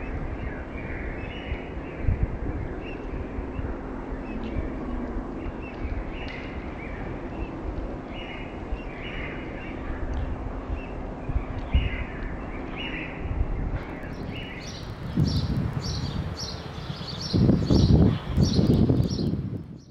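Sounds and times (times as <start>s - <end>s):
low outdoor rumble: 0.0s - 19.8s
birds chirping: 0.0s - 19.9s.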